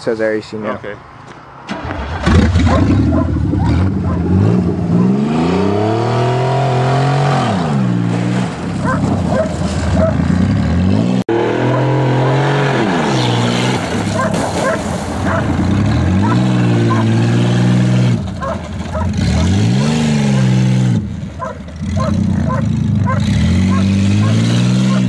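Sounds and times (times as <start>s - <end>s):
car engine revving: 1.7s - 25.0s.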